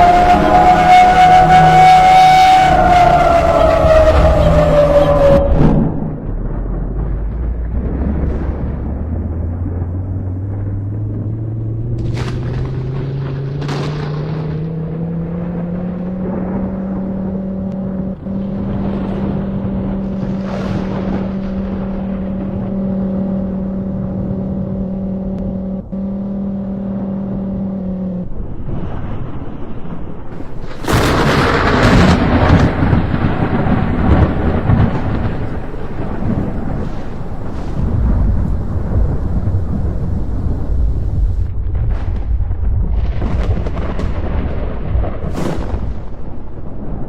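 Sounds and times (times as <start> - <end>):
tornado warning siren wailing: 0.0 - 41.5
loud rumbling noise: 0.0 - 47.0.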